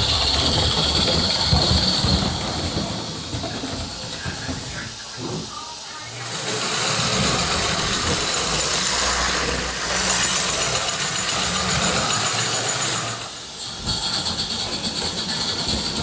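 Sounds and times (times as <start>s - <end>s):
model train wheels rattling on rails: 0.0s - 16.0s.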